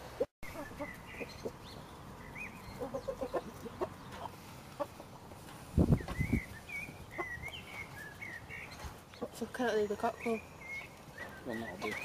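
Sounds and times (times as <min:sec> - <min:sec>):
chickens clucking: 0:00.1 - 0:12.0.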